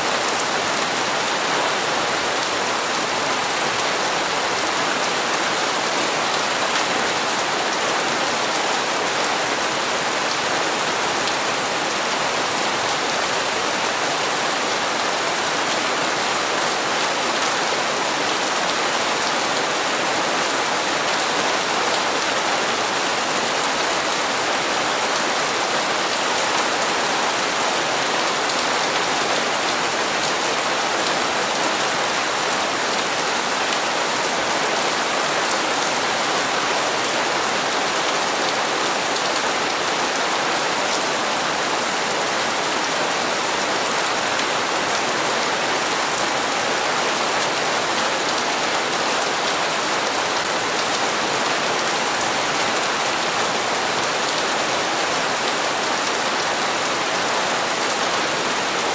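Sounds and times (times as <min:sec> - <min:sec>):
rain on hard surfaces: 0:00.0 - 0:58.9.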